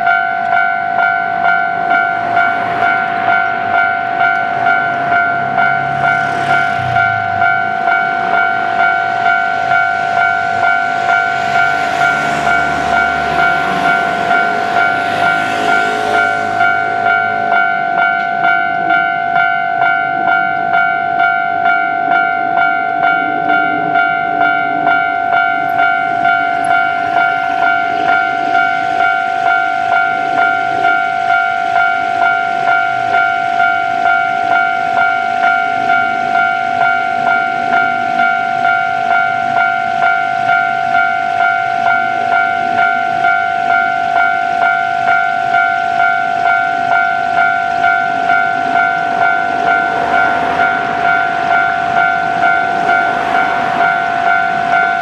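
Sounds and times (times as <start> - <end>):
level crossing warning bell: 0.0 - 55.0
train running: 0.0 - 55.0.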